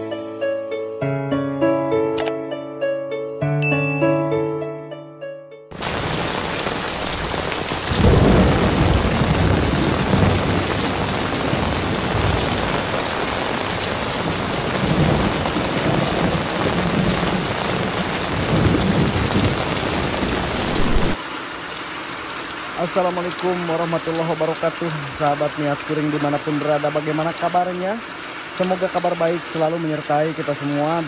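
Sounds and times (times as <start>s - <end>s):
heavy rain on a tiled roof: 5.8s - 31.0s
water streaming off roof edge: 5.8s - 31.0s.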